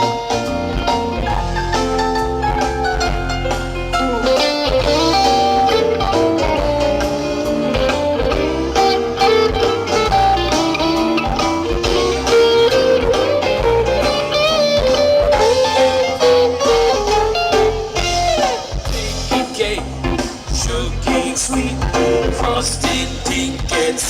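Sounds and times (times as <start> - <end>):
electric guitar lines: 0.0 - 23.3
bass guitar: 0.0 - 24.0
steady drum beat: 0.0 - 24.0.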